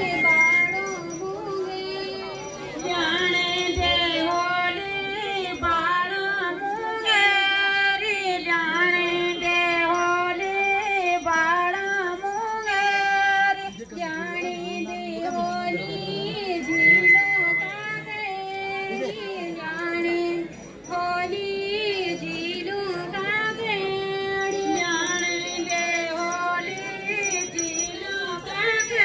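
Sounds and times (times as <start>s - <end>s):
women singing folk song: 0.0s - 29.0s.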